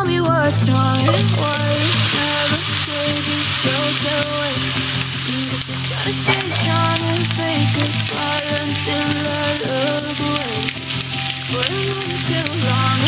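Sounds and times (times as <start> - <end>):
background music with melody: 0.0 - 13.0
food sizzling in hot oil: 0.0 - 13.0.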